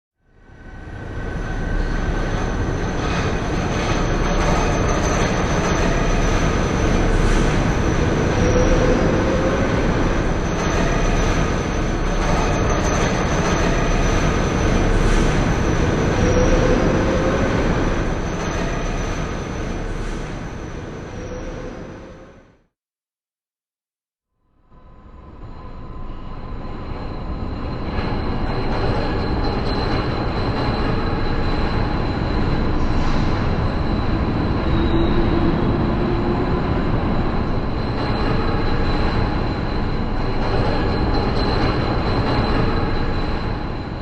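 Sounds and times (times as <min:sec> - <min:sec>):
train wheels rumbling on rails: 0:00.3 - 0:22.5, 0:25.2 - 0:44.0.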